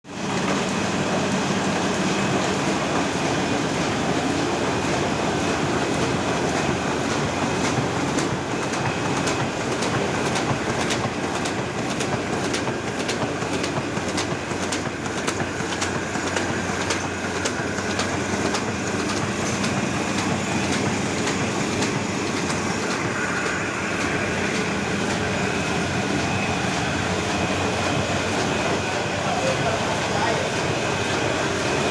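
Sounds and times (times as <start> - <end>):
printing press clattering: 0.1 - 31.9.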